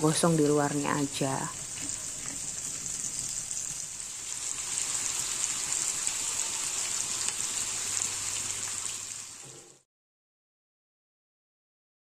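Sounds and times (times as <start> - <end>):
chicken sizzling in a wok: 0.0 - 9.9.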